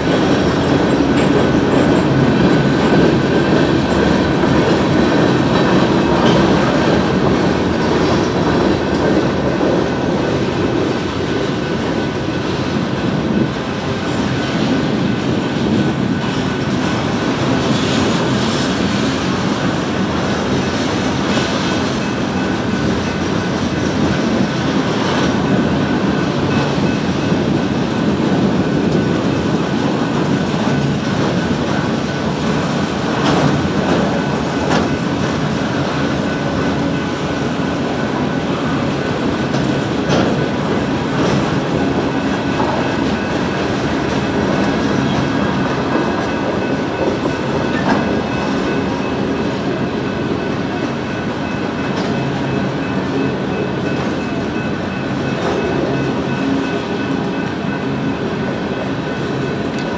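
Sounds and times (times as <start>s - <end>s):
train cars rolling past: 0.0s - 59.9s
wheels clacking over rail joints: 0.0s - 59.9s.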